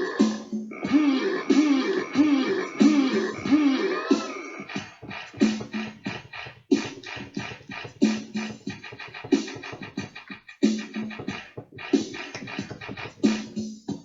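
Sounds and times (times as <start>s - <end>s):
record scratching: 0.0s - 13.7s
looped electronic beat: 0.0s - 14.0s.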